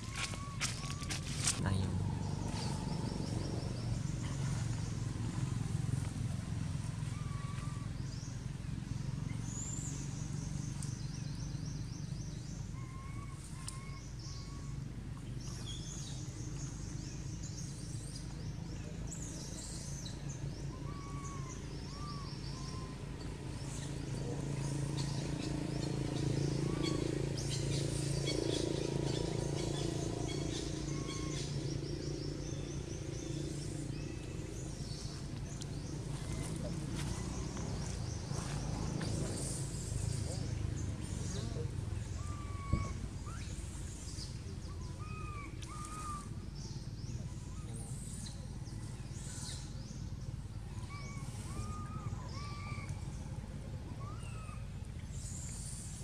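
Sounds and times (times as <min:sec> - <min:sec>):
birds chirping and trilling: 0:00.0 - 0:56.0
steady low hum: 0:00.0 - 0:56.0.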